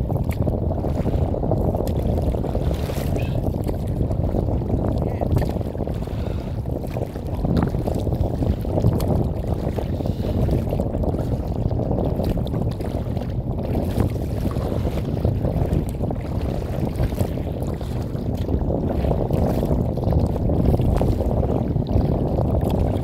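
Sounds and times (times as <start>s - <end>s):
water splashing against boat: 0.0s - 23.0s
wind buffeting microphone: 0.0s - 23.0s.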